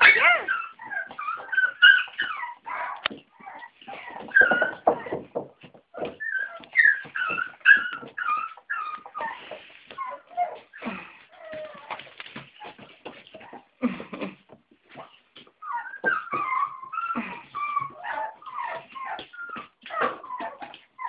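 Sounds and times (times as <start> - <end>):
puppies whimpering and yipping: 0.0 - 13.7, 14.9 - 21.0.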